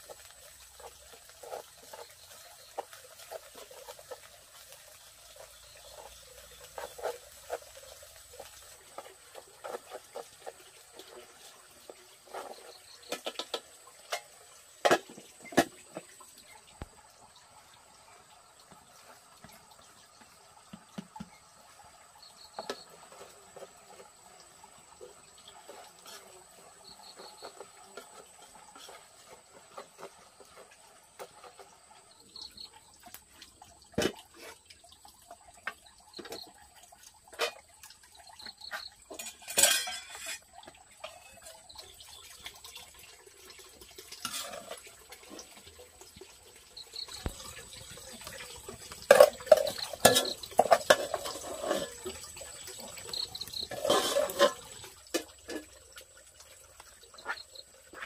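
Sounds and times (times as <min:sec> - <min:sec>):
water splashing and trickling: 0:00.0 - 0:58.0.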